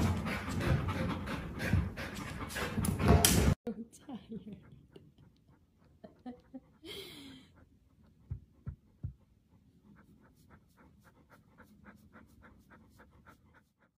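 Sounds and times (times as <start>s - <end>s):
dog panting: 0.0s - 3.6s, 4.2s - 14.0s.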